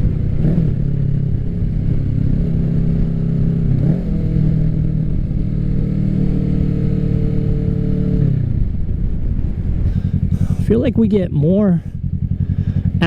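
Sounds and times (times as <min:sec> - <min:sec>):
motorcycle engine cruising: 0:00.0 - 0:13.0
wind rumble on microphone: 0:00.0 - 0:13.0.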